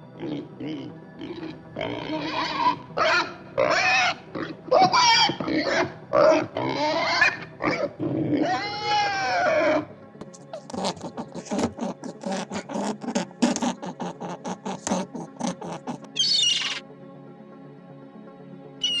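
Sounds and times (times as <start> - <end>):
pig grunting and squealing: 0.0 - 16.8.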